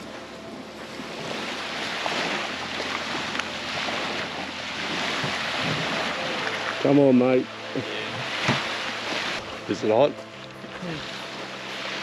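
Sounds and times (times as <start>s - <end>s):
small waves washing on beach: 0.0s - 12.0s.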